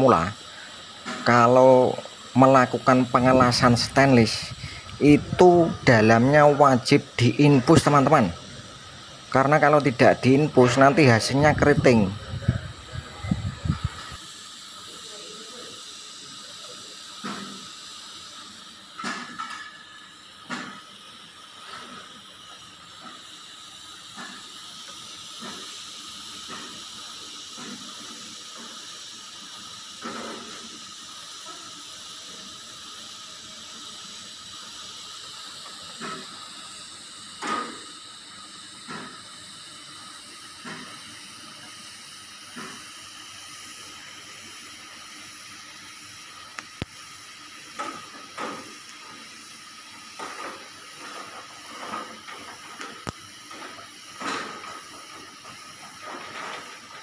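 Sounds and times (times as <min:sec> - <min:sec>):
welding arc hissing: 0:00.0 - 0:57.0.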